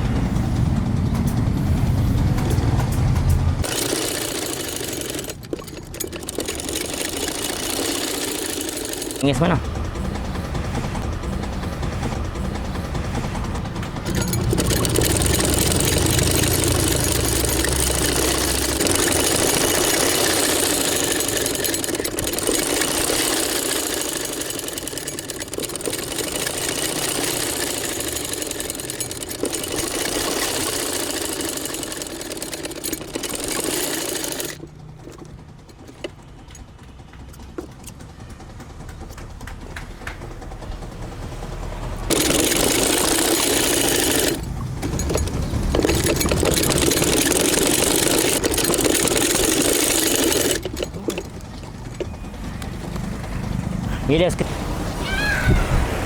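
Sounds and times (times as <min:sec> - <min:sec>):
power tool rushing noise: 0:01.7 - 0:38.0, 0:40.3 - 0:56.0.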